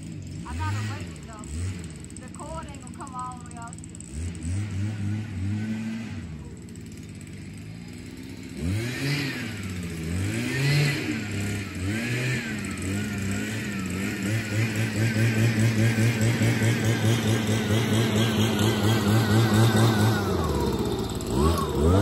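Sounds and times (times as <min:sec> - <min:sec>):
leaf blower motor revving: 0:00.0 - 0:22.0.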